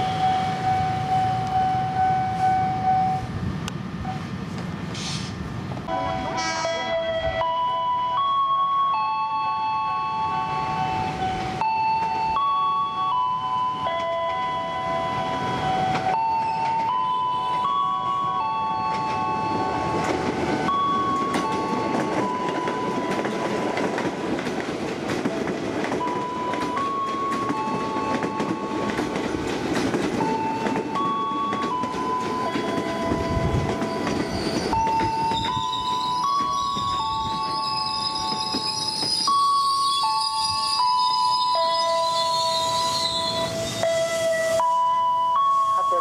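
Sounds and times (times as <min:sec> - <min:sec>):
train wheels rumbling on rail: 0:00.0 - 0:07.6, 0:10.1 - 0:44.7.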